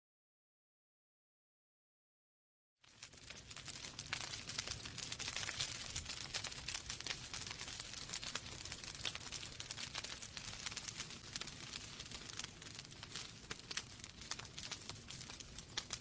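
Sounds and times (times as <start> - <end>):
wood fire crackling: 2.8 - 16.0.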